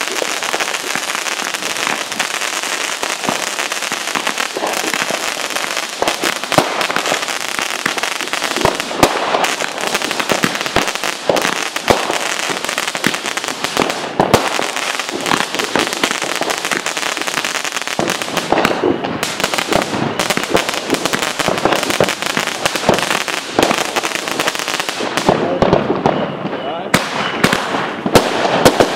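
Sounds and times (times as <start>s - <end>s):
fireworks bangs: 0.0s - 28.9s
fireworks crackling: 0.0s - 28.9s.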